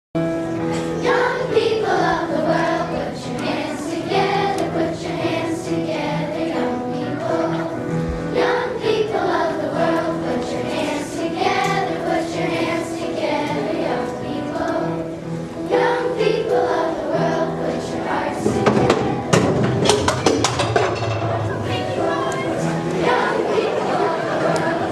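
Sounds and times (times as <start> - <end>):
girls singing: 1.0 - 24.9.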